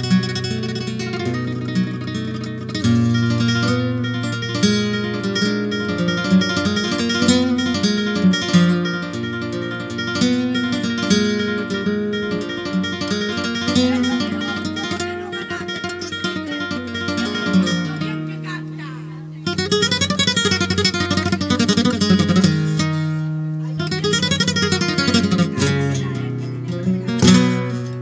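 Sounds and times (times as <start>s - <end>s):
solo flamenco guitar: 0.0s - 28.0s.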